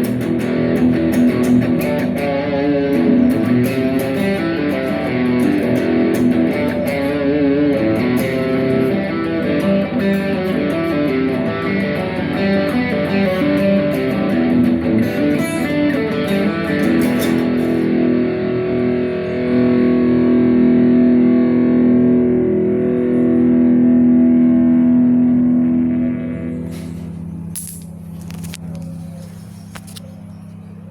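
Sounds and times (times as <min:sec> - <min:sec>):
rock music with electric guitar: 0:00.0 - 0:27.8.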